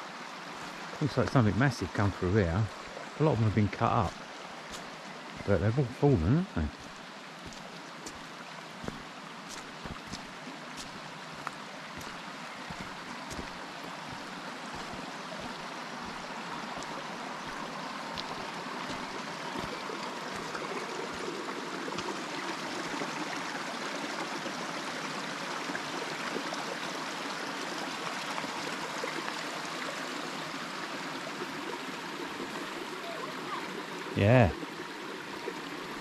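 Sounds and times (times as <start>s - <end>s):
fast-flowing stream: 0.0s - 36.0s.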